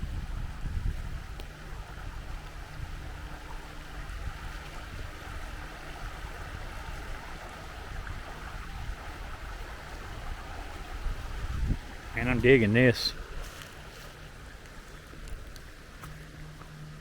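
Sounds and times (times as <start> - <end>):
stream flowing and trickling: 0.0 - 17.0.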